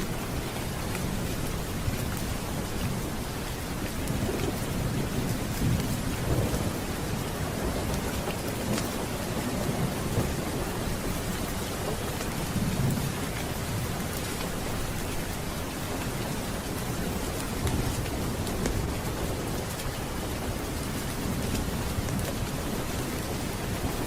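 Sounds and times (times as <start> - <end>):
low rolling thunder: 0.0 - 24.0
steady rain: 0.0 - 24.0.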